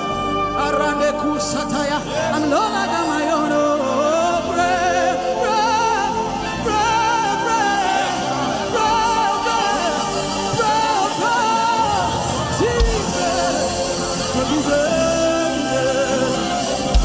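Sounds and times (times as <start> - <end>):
sustained instrumental backing: 0.0 - 17.0.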